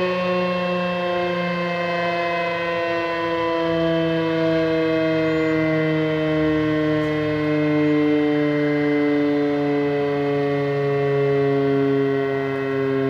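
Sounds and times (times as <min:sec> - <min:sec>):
warning siren steady tone: 0:00.0 - 0:13.0.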